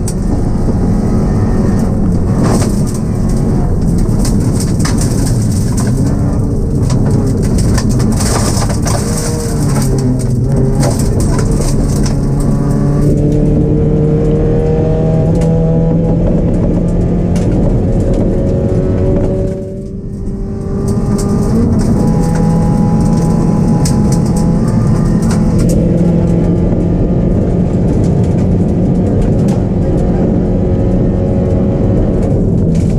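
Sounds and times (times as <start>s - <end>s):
car engine pulling under load: 0.0s - 32.9s.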